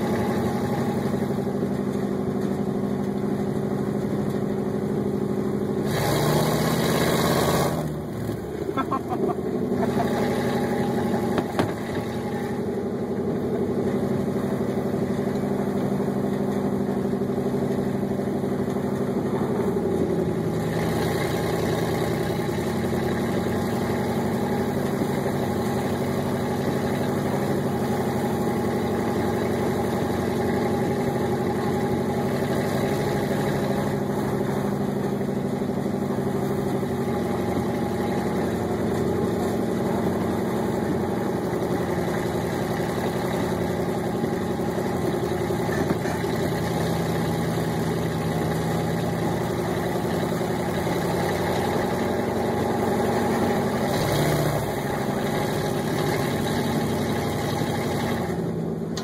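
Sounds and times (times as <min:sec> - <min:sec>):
pickup truck engine running: 0:00.0 - 0:59.0.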